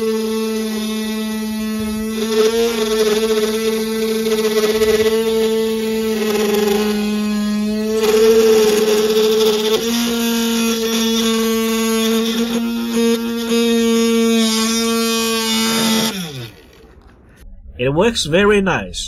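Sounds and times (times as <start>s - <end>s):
drill bit drilling into board: 0.0s - 17.0s
drill motor whining: 0.0s - 17.4s.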